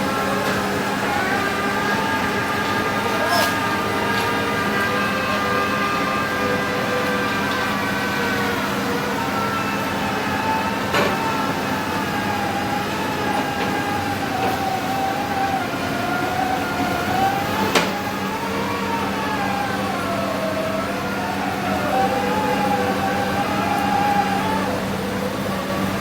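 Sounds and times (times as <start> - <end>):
piling rig engine hum: 0.0 - 26.0
wavering whine: 0.0 - 26.0.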